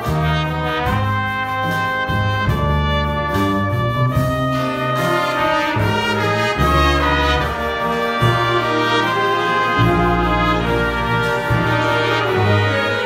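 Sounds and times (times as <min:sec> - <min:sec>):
bass line: 0:00.0 - 0:13.0
big band playing ballad: 0:00.0 - 0:13.0
trumpet lead line: 0:00.0 - 0:13.0.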